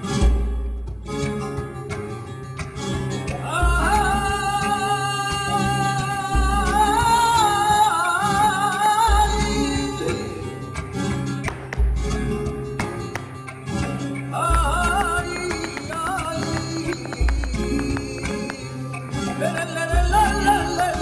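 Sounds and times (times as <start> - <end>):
person singing flamenco: 0.0 - 21.0.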